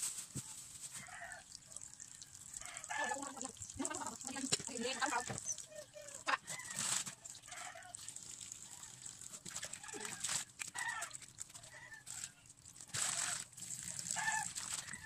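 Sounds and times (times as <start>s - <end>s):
tap water running into basin: 1.0s - 15.0s.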